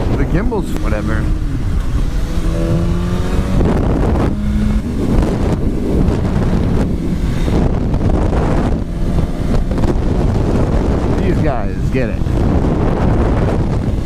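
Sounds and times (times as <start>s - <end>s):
motorcycle engine: 0.0s - 14.0s
wind rushing over microphone: 0.0s - 14.0s.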